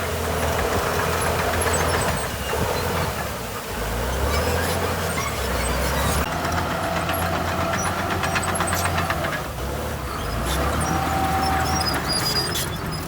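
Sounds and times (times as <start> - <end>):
diesel machinery engine drone: 0.0 - 13.0.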